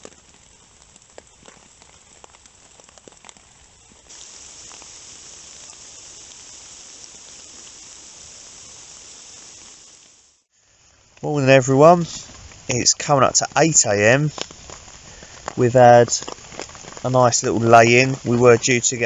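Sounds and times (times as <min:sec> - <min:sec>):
raindrops ticking: 0:00.0 - 0:10.4, 0:11.1 - 0:19.0
rain hissing: 0:00.0 - 0:19.0.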